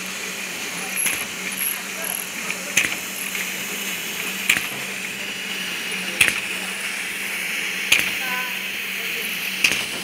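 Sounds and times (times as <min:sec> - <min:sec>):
machine humming and hissing: 0:00.0 - 0:10.0.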